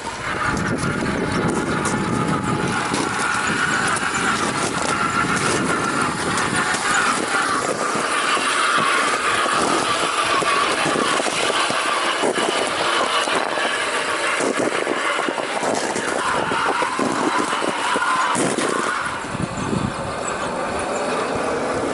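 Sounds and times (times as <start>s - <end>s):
crunching and rattling over terrain: 0.0s - 21.9s
toy car motor whining: 0.0s - 21.9s.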